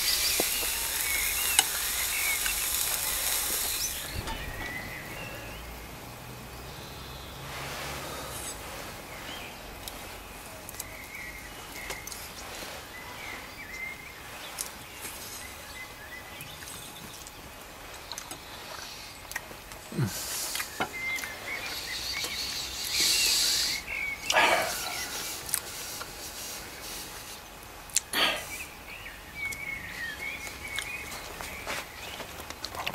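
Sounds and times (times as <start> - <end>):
small birds chirping: 0.0 - 32.8
outdoor background hiss: 0.0 - 32.9
rustle: 0.0 - 32.9.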